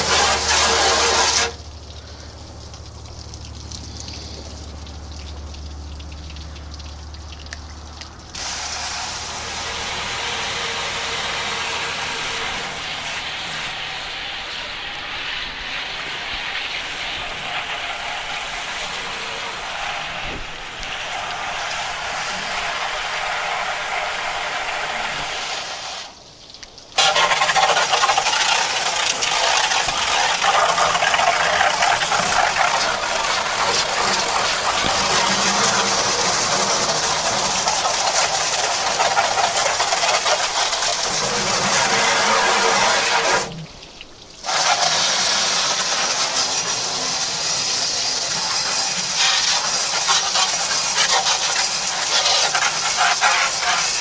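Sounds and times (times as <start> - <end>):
hose spraying into metal: 0.0 - 4.6, 8.3 - 54.0.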